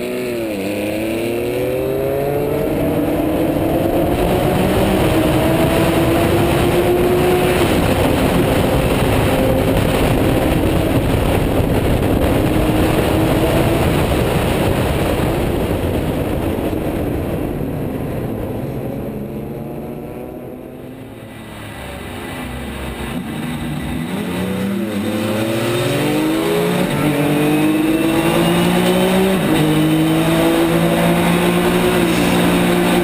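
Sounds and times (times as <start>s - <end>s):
race car engine accelerating: 0.0s - 33.0s
wind rush: 0.0s - 33.0s.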